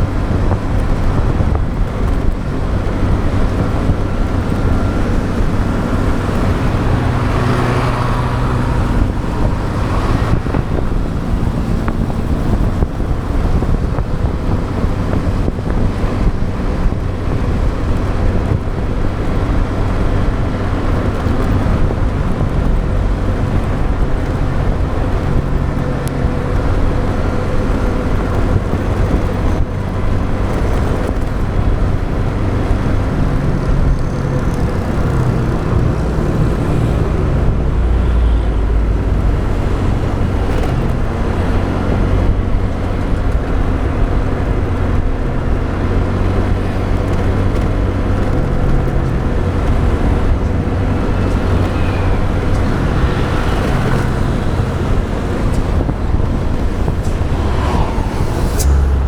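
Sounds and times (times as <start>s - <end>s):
other vehicles in traffic: 0.0s - 59.0s
road and wind rumble: 0.0s - 59.0s.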